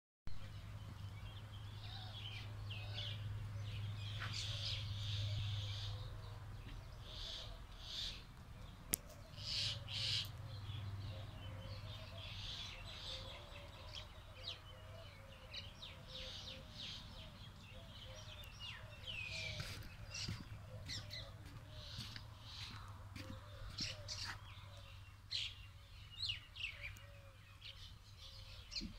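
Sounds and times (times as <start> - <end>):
birds chirping: 0.3 - 28.9.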